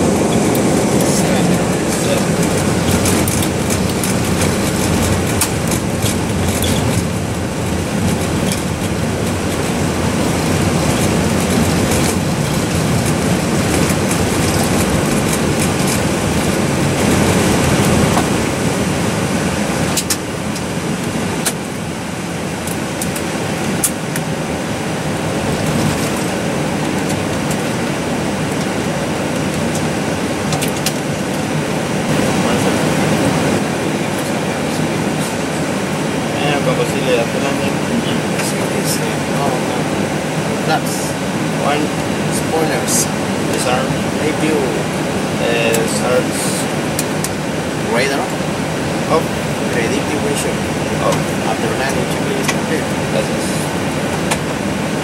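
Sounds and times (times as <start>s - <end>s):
aircraft engine and tyre rumble: 0.0s - 55.0s.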